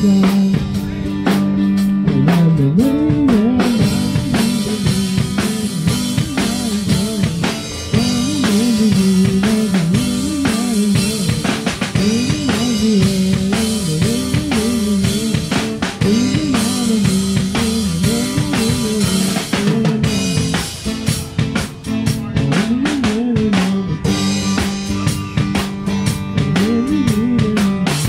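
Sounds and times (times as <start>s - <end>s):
drum kit groove: 0.0s - 28.0s
electric guitar: 0.0s - 28.0s.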